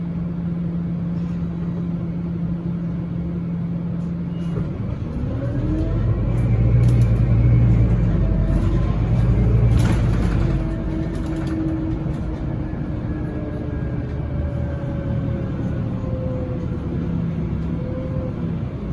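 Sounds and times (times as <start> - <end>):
bus engine accelerating: 0.0 - 18.9.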